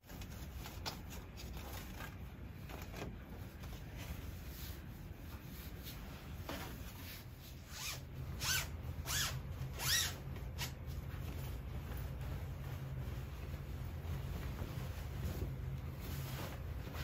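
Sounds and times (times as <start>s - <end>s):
fabric rustling: 0.0s - 17.0s.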